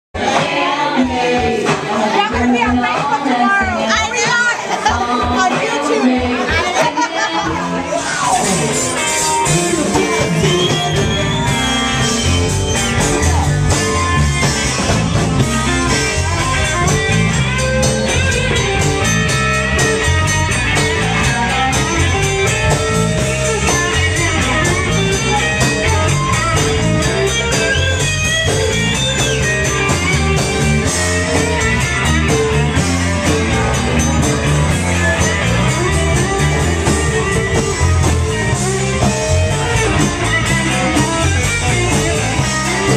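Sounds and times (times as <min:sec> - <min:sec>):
bass line: 0:00.2 - 0:42.9
drums: 0:00.2 - 0:42.9
electric guitar lines: 0:06.4 - 0:42.9.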